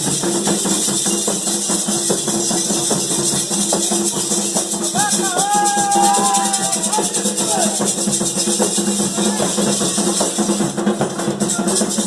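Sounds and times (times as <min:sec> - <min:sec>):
shaken rattles: 0:00.0 - 0:10.7
drums: 0:00.0 - 0:12.0.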